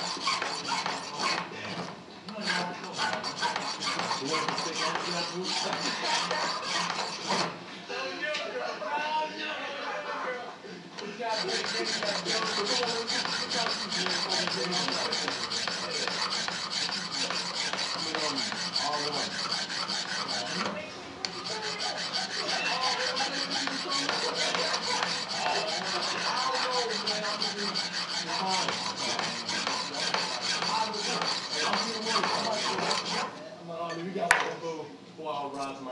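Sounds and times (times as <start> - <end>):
file rasping on steel: 0.0 - 1.5, 2.4 - 7.6, 11.2 - 33.4.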